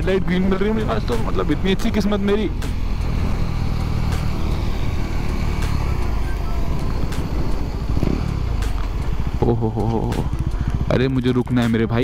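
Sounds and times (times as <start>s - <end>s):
motorcycle engine slowing down: 0.0s - 12.0s.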